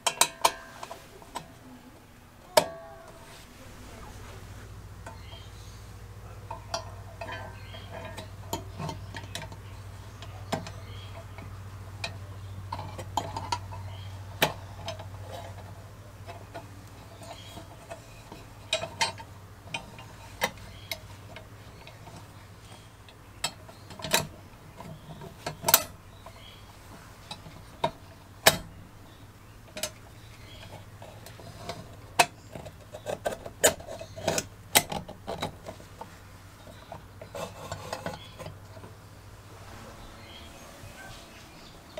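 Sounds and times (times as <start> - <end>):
metal lantern parts clicking: 0.0 - 1.6, 6.4 - 39.0.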